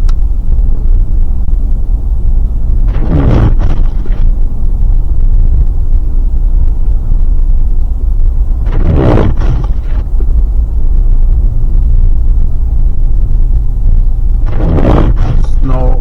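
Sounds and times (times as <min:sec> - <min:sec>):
storm wind buffeting microphone: 0:00.0 - 0:16.0.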